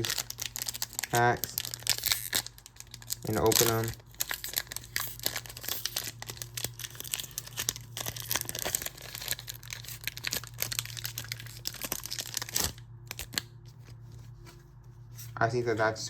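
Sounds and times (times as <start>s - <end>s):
foil wrapper tearing and crinkling: 0.0s - 13.6s.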